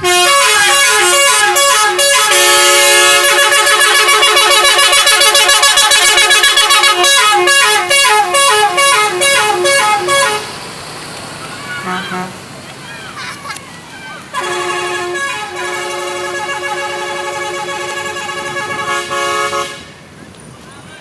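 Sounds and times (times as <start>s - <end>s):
musical air horn playing tune: 0.0s - 10.6s, 11.8s - 12.4s, 14.4s - 20.0s.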